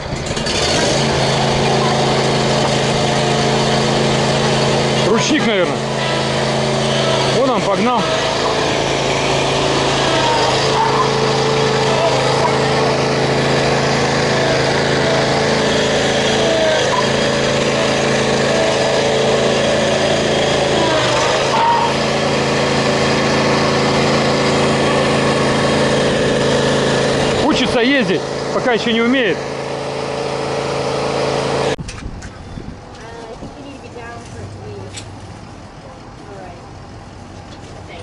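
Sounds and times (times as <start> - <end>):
riding mower engine running: 0.0 - 38.0.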